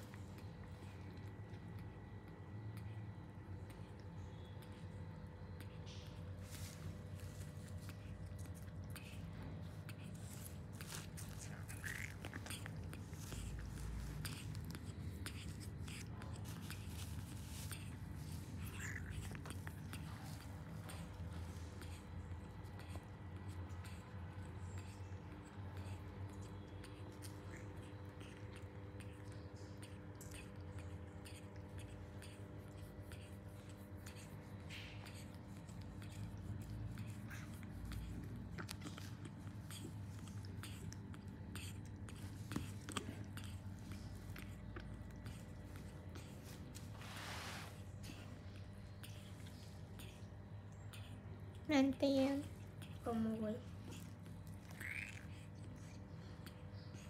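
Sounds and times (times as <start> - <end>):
baby monkey sucking bottle: 0.0 - 57.0
steady low hum: 0.0 - 57.0.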